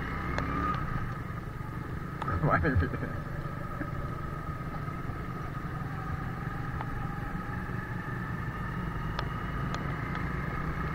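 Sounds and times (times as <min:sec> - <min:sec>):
motorcycle engine rumbling: 0:00.0 - 0:10.9.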